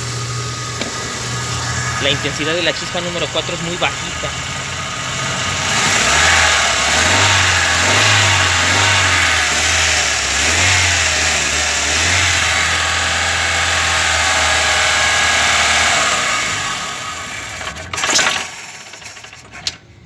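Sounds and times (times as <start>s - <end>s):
car engine running and stalling: 0.0s - 19.9s.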